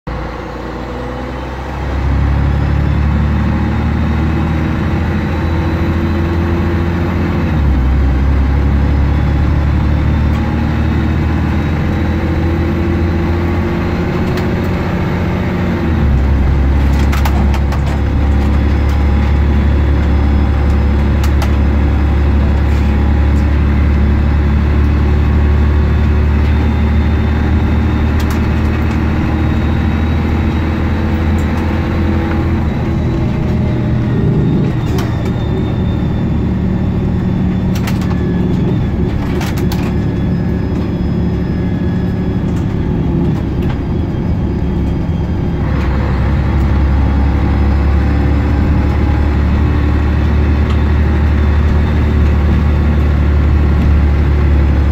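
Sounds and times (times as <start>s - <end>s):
bus diesel engine under load: 0.0s - 54.9s
bus body rattles: 0.2s - 54.9s.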